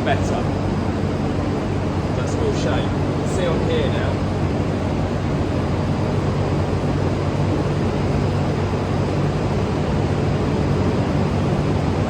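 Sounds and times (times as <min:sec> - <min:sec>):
ventilation fans rushing: 0:00.0 - 0:12.0.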